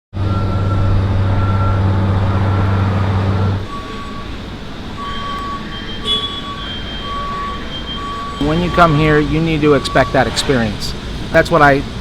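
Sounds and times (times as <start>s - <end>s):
low mechanical hum: 0.2s - 12.0s
short electronic beeps: 0.3s - 4.4s, 5.0s - 10.5s.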